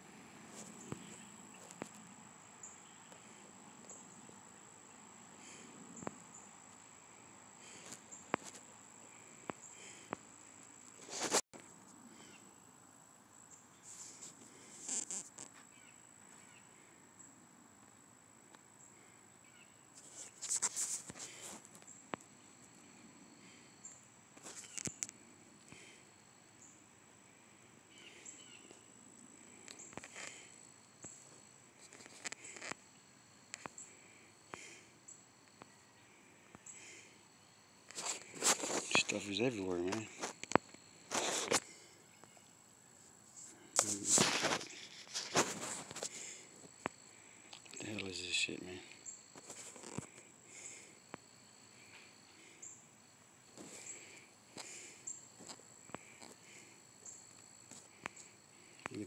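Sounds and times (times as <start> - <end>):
faint high-pitched whine: 0.0 - 59.0.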